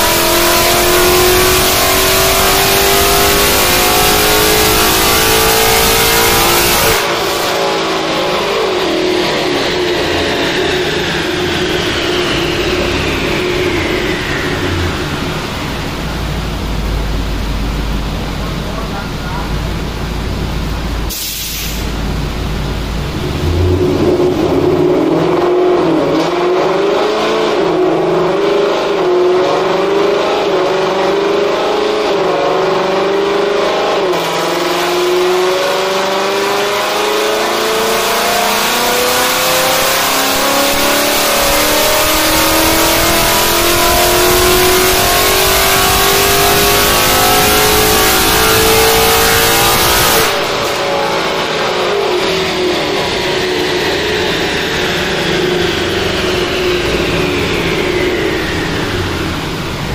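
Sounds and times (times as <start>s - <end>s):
car engine revving on dyno: 0.0s - 59.9s.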